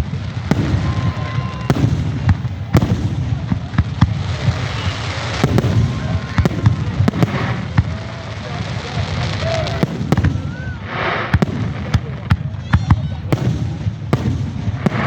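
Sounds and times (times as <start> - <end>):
crowd voices: 0.0 - 15.0
fireworks bangs: 0.0 - 15.0.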